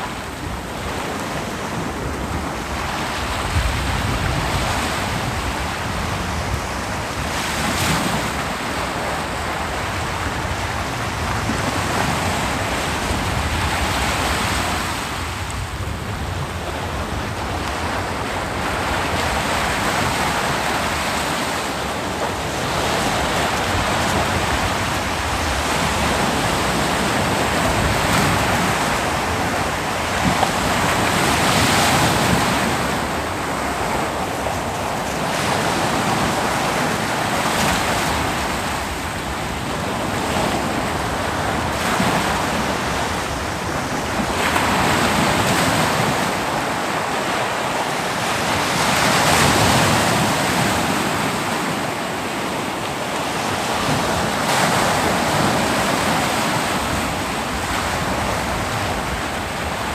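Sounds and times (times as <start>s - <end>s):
ocean surf breaking: 0.0s - 59.9s
waves crashing: 0.0s - 59.9s.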